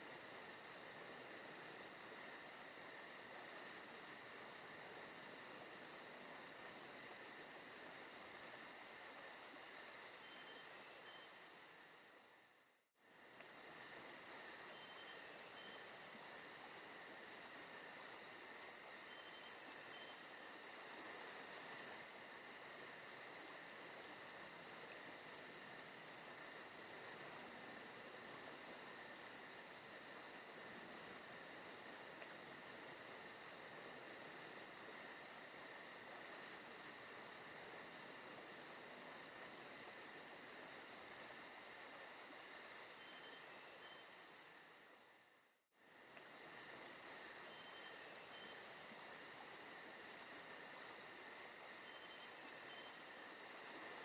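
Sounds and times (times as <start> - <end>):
insects chirping chorus: 0.0 - 54.0.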